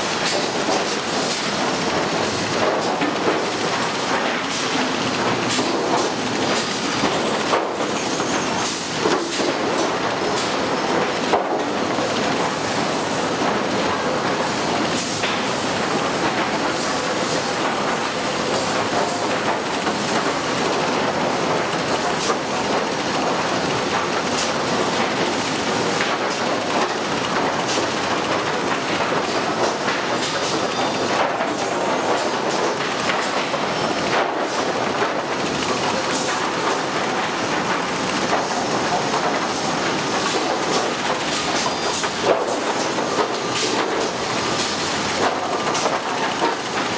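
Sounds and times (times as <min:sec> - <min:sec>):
lumber stacking machine clatter: 0:00.0 - 0:46.9.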